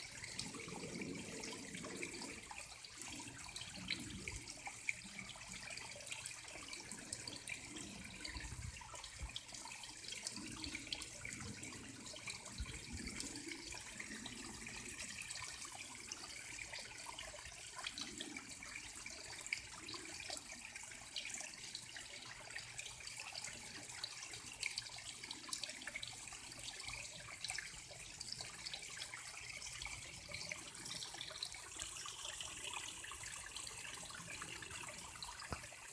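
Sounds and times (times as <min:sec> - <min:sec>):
water trickling and splashing: 0:00.0 - 0:35.9.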